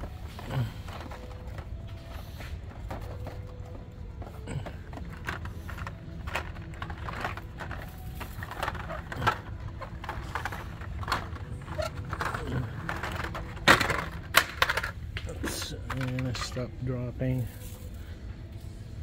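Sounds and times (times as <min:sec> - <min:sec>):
packages clacking on metal hooks: 0:00.0 - 0:18.0.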